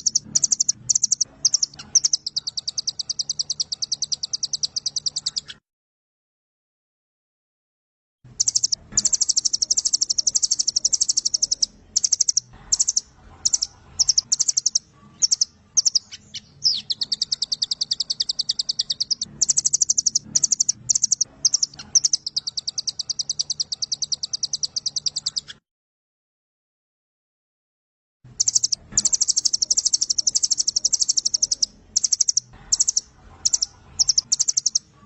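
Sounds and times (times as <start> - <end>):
bird singing fast high trills: 0.0 - 5.5, 8.4 - 25.4, 28.4 - 34.8
bird chirps: 0.0 - 5.6, 8.3 - 25.6, 28.3 - 35.0.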